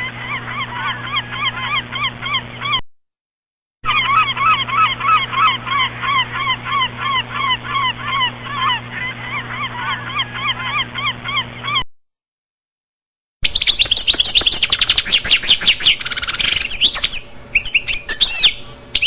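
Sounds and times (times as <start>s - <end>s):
flock of birds calling: 0.0s - 2.8s, 3.9s - 11.8s, 13.6s - 19.0s.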